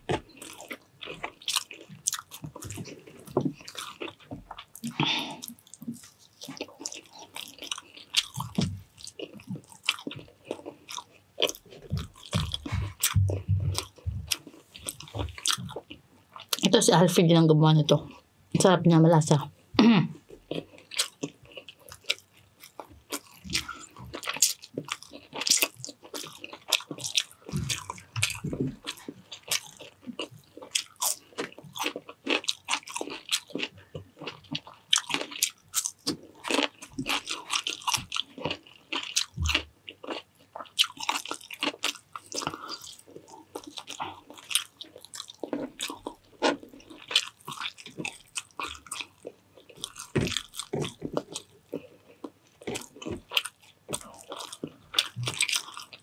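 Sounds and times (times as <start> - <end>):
person chewing and crunching: 0.0 - 17.2, 20.2 - 56.0.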